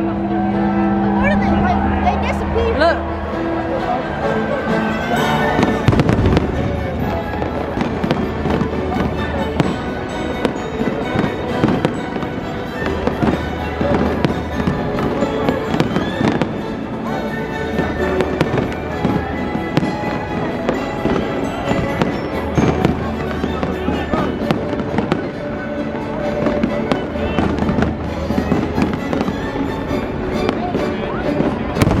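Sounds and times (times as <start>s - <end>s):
music playing: 0.0s - 32.0s
fireworks bangs and crackles: 4.9s - 32.0s.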